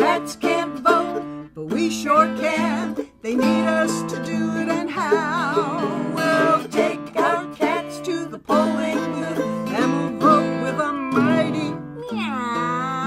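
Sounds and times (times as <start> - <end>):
country music with acoustic guitar: 0.0 - 13.0.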